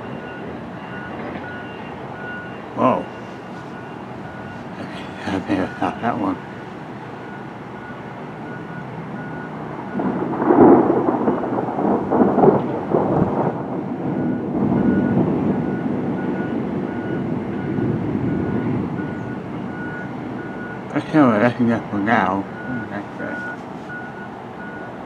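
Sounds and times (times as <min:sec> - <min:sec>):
thunder rumbling: 0:00.0 - 0:20.9.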